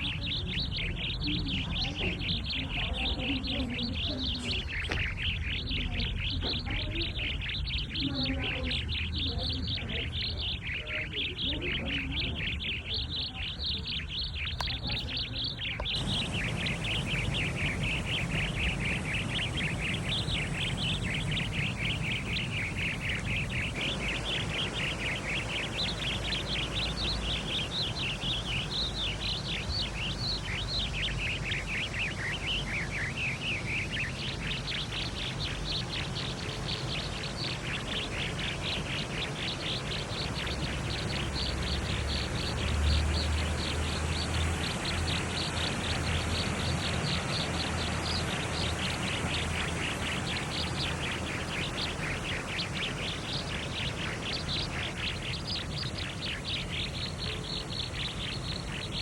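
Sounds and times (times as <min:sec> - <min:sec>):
birds chirping and singing: 0:00.0 - 0:59.0
steady low hum: 0:00.0 - 0:59.0.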